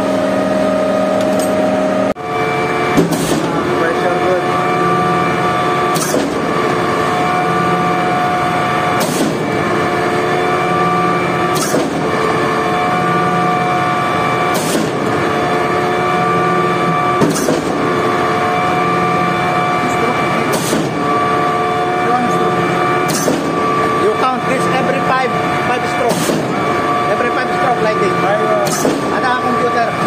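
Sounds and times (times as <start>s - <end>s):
concrete pump engine droning: 0.0s - 30.0s.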